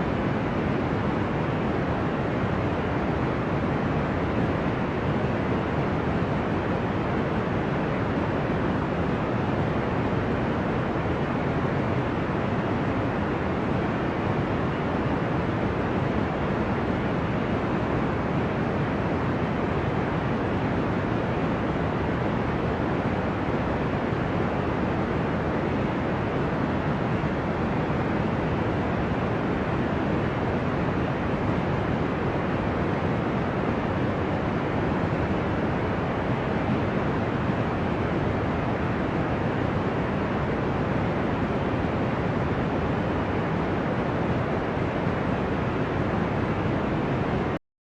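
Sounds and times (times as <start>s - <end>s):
deep white noise: 0.0s - 47.6s.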